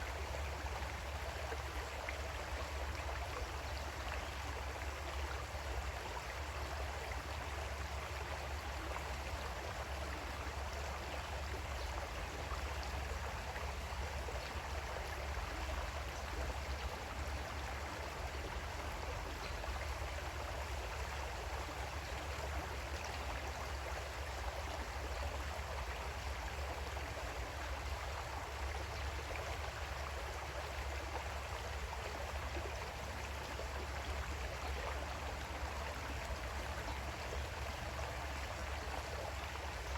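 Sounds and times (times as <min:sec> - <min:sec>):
creek water gurgling over stones: 0:00.0 - 0:39.9.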